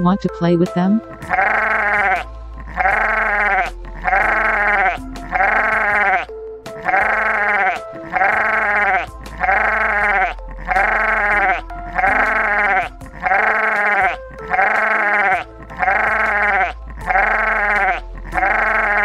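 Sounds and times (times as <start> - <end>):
lamb bleating: 1.2 - 19.0.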